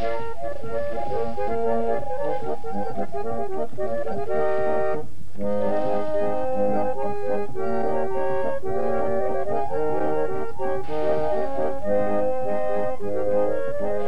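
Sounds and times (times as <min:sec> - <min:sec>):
organ-like instrumental music: 0:00.0 - 0:14.0.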